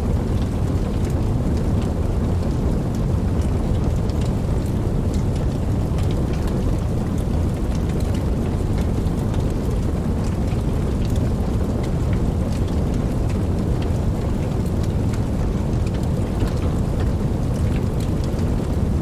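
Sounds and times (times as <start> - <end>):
steady rain: 0.0 - 19.0
raindrop ticks: 0.1 - 19.0.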